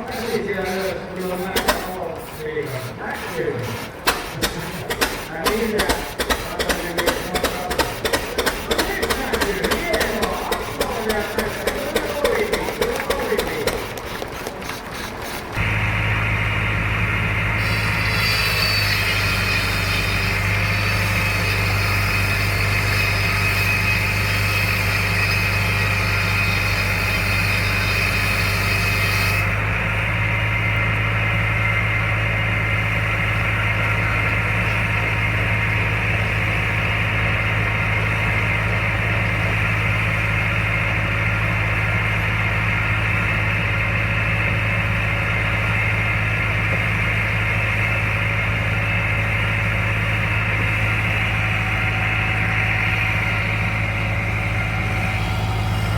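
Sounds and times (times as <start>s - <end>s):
engine idling: 0.0s - 22.9s, 29.4s - 55.9s.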